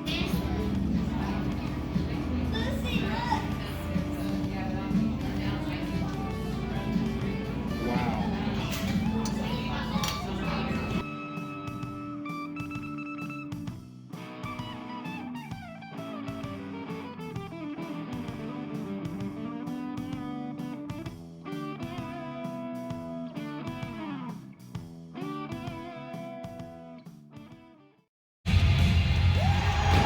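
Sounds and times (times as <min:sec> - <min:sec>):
electric guitar melody: 0:00.0 - 0:24.6, 0:25.2 - 0:27.9
steady drum beat: 0:00.0 - 0:26.7.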